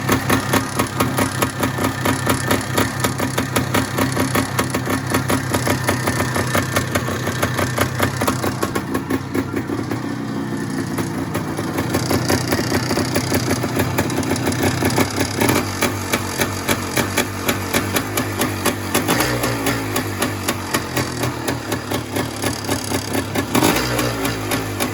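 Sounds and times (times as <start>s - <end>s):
two-stroke engine idling: 0.0s - 24.9s.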